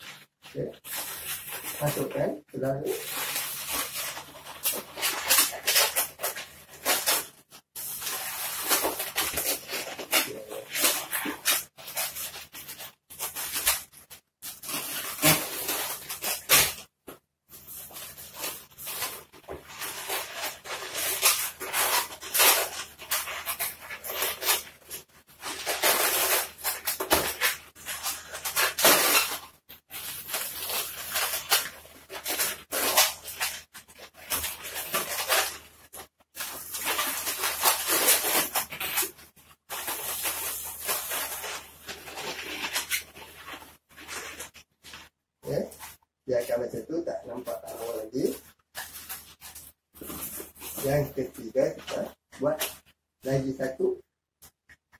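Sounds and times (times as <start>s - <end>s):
balloons squeaking and rubbing: 0.0s - 53.8s.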